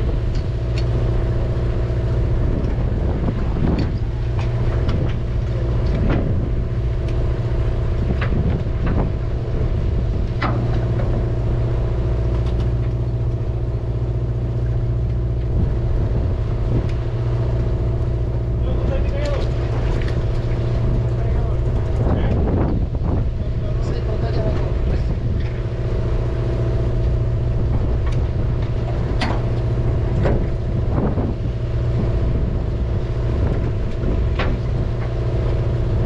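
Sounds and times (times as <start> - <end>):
boat machinery humming: 0.0 - 36.0.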